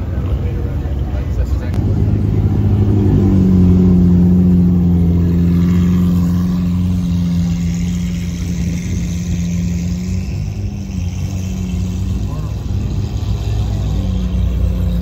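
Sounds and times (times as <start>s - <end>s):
car engine droning at low revs: 0.0s - 15.0s.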